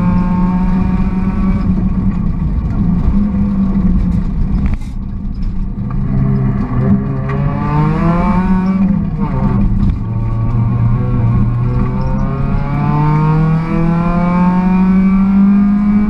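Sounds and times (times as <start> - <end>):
car engine revving under acceleration: 0.0 - 4.7, 5.7 - 16.0.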